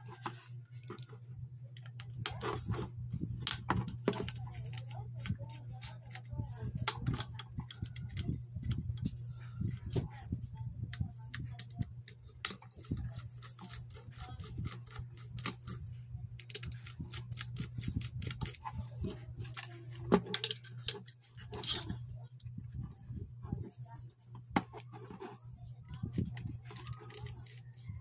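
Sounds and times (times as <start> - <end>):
steady low hum: 0.0 - 28.0
screwdriver clicks and metal taps: 0.1 - 2.8, 3.4 - 9.4, 10.9 - 22.0, 24.3 - 27.6.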